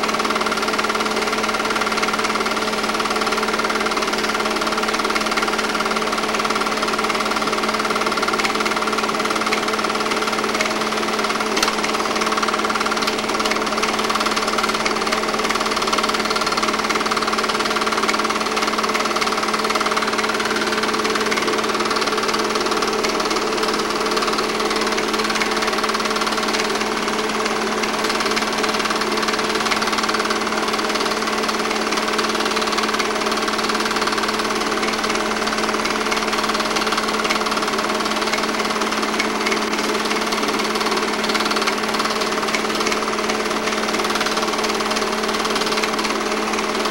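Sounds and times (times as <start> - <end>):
film projector clattering: 0.0 - 46.9
motor hum: 0.0 - 46.9.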